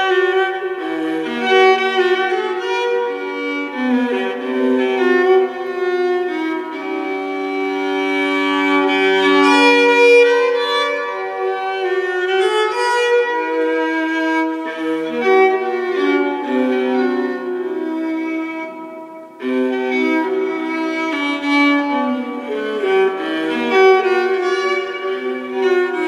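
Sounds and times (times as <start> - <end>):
slow bowed string melody: 0.0 - 26.0.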